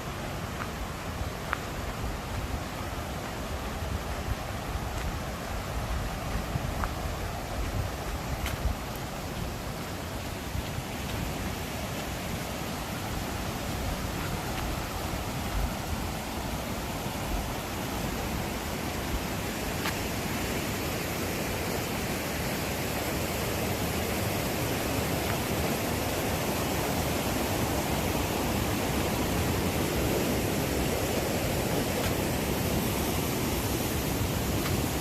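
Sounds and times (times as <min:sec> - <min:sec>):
steady rushing noise: 0:00.0 - 0:35.0.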